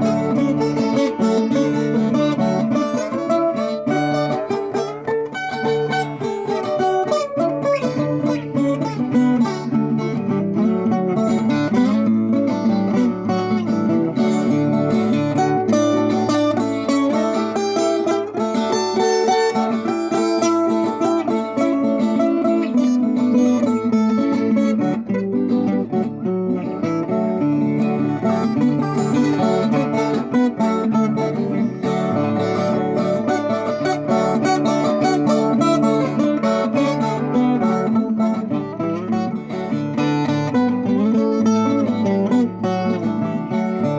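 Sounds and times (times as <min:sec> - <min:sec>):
plucked steel-string guitar: 0:00.0 - 0:43.9.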